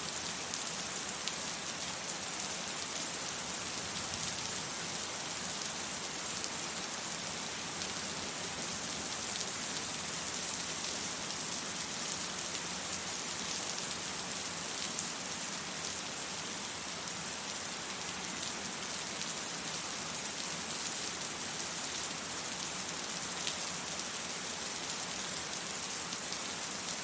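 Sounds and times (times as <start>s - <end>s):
rain hissing on hard surfaces: 0.0s - 27.0s.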